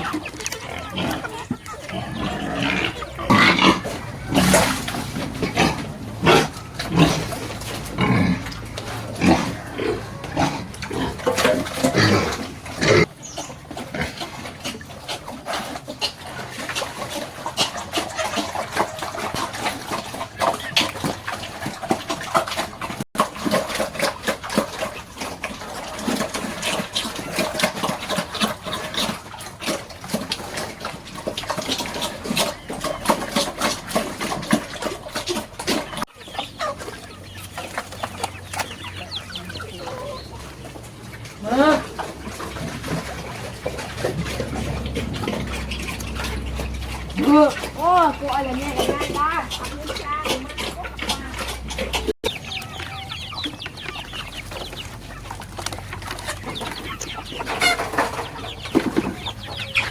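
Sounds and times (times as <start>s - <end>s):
pigs grunting and calling: 0.0s - 59.9s.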